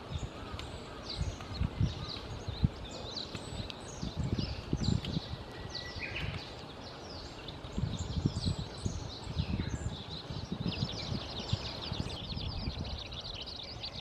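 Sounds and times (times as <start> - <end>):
birds chirping: 0.0 - 14.0
wind buffeting microphone: 0.0 - 14.0.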